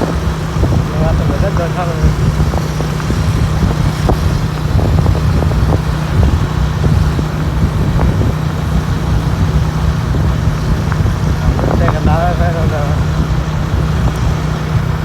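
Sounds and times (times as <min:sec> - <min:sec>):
motorcycle engine drone: 0:00.0 - 0:15.0
road rumble: 0:00.0 - 0:15.0.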